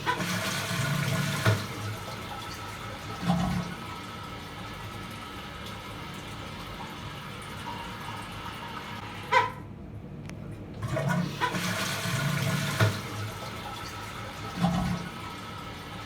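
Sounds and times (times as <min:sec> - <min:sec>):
tank refilling with water: 0:00.0 - 0:09.7, 0:10.7 - 0:16.0
toilet gurgle: 0:00.0 - 0:09.7, 0:10.8 - 0:16.0
toilet flushing: 0:00.0 - 0:09.8, 0:10.7 - 0:16.0.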